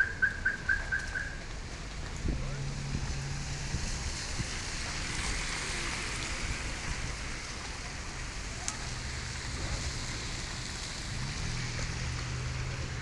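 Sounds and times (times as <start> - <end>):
light rain on wet street: 0.0 - 13.0.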